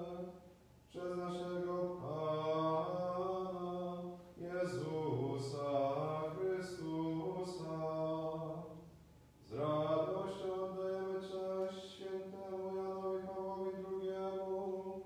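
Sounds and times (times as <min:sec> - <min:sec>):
man chanting: 0:00.9 - 0:08.8, 0:09.4 - 0:15.0.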